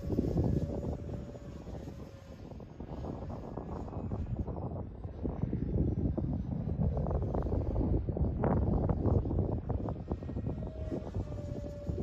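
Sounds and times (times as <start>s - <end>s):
ducted fan whine: 0.0s - 12.0s
wind buffeting microphone: 0.0s - 12.0s.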